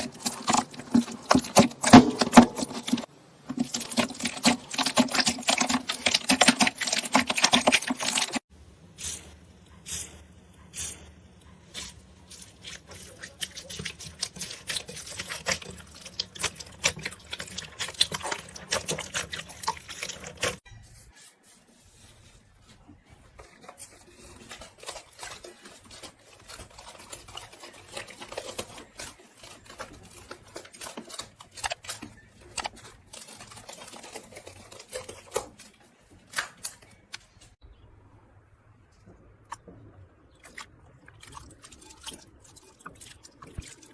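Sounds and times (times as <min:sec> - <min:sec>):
crackling of material being cut: 0:00.0 - 0:37.6.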